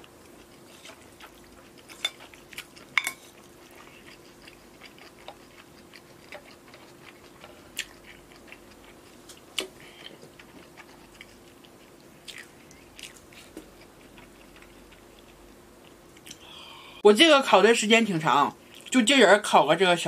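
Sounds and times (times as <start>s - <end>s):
chewing soft food: 0.0s - 16.8s, 18.6s - 19.0s.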